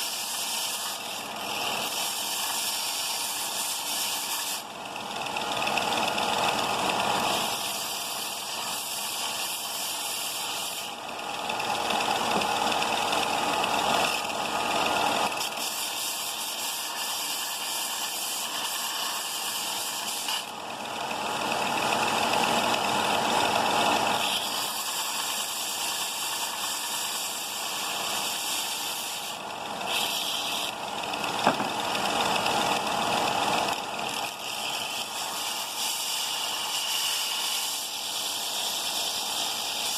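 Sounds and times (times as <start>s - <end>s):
sander grinding metal: 0.0s - 39.9s.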